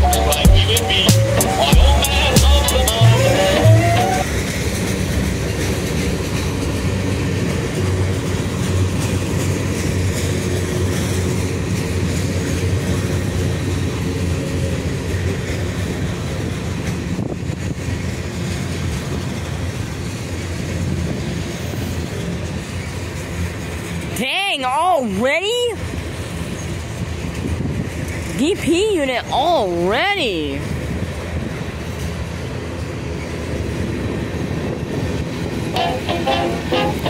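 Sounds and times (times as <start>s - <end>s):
train wheels running on rails: 0.0s - 37.0s.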